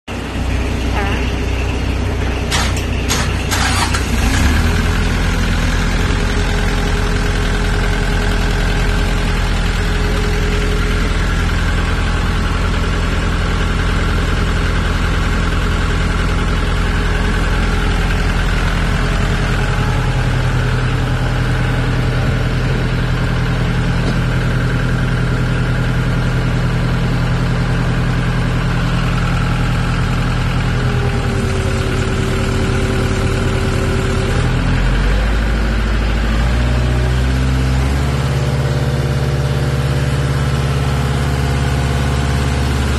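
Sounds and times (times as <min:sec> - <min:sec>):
tractor engine idling: 0:00.1 - 0:42.9.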